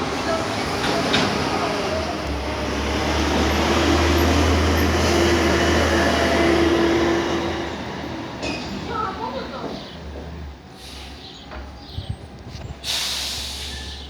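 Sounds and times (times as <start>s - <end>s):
garbage truck engine drone: 0.0s - 11.4s.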